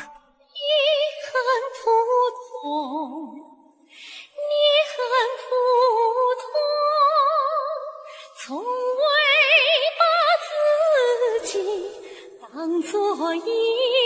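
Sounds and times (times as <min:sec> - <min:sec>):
woman singing with vibrato: 0:00.0 - 0:03.6, 0:04.2 - 0:14.0.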